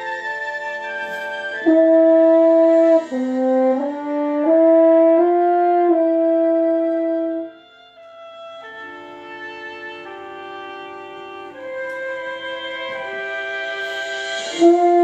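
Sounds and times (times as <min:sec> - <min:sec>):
french horn playing sustained notes: 0:00.0 - 0:15.0.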